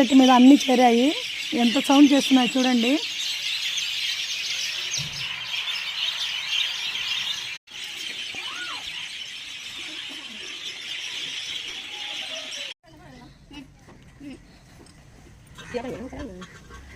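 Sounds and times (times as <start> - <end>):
small birds chirping and twittering: 0.0 - 16.9.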